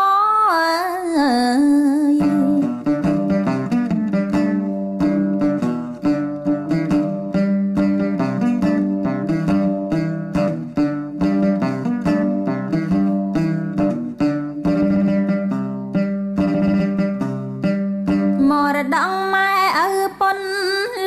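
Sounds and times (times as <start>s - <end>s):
plucked string instrument run: 2.2s - 20.9s.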